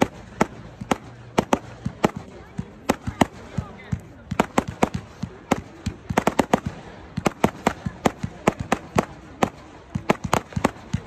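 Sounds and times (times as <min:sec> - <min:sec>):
firework cake sharp bangs: 0:00.0 - 0:11.0.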